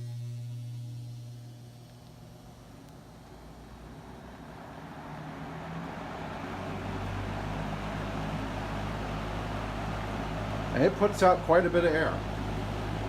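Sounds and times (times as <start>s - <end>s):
box fan rushing air: 0.0s - 13.0s
low motor hum: 0.0s - 13.0s.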